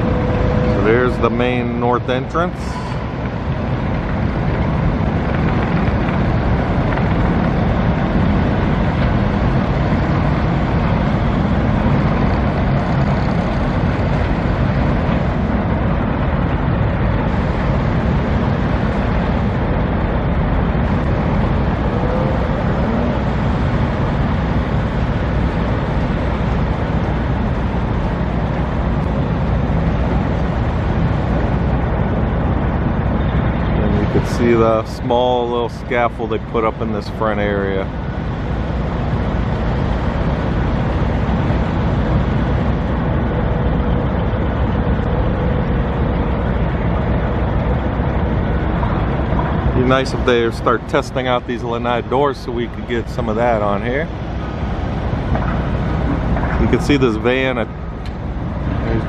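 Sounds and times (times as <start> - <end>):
road traffic roar: 0.0 - 59.0.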